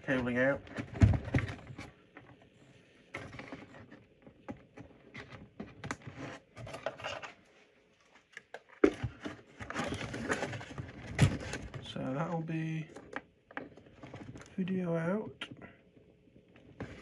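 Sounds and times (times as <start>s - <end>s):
hands working with cables and tools: 0.0s - 14.7s, 15.5s - 17.0s.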